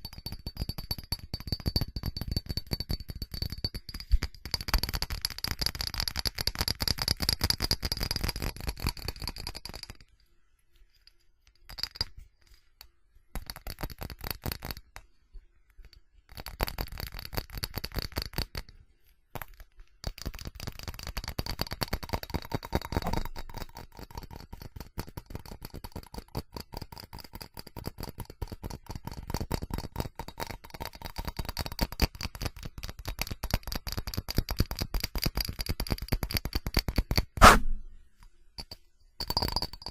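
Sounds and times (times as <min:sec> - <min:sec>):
fast tapping on ceramic: 0:00.0 - 0:10.1, 0:11.0 - 0:15.0, 0:15.8 - 0:18.8, 0:19.4 - 0:37.4, 0:38.6 - 0:39.9.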